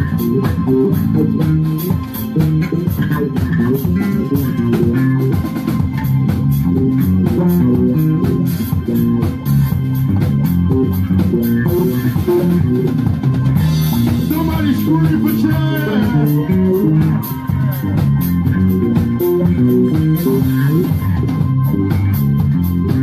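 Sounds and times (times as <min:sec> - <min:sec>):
drum kit beat: 0:00.0 - 0:23.0
electric bass playing: 0:00.0 - 0:23.0.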